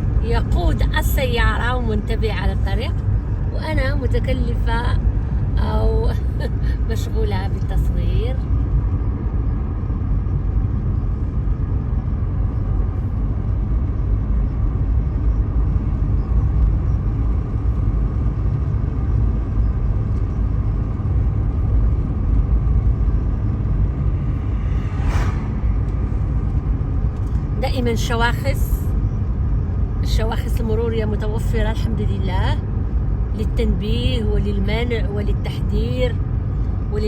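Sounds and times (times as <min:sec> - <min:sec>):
car cabin road and engine rumble: 0:00.0 - 0:37.0.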